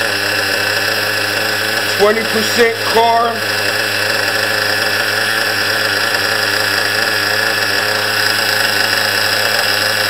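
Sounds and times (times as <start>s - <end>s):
small nitro engine idling: 0.0s - 10.0s.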